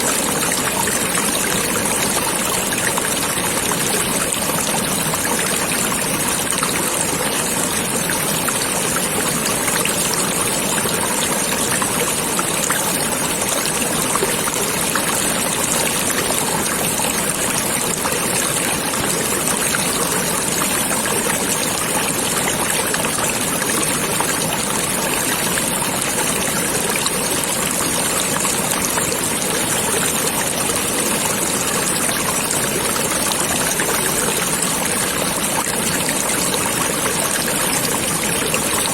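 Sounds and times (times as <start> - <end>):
stream water babbling: 0.0 - 38.9.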